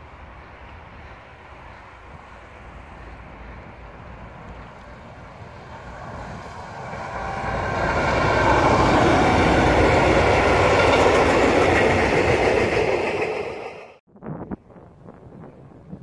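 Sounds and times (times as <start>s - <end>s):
diesel locomotive passing: 0.0s - 14.0s
train wheels rumbling: 0.0s - 14.0s.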